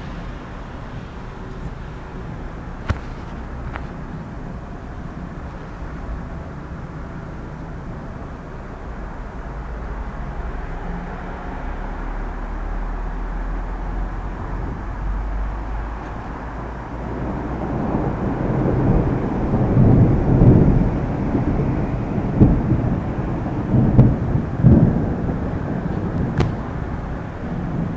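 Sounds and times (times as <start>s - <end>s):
thunder rumbling: 0.0s - 27.9s.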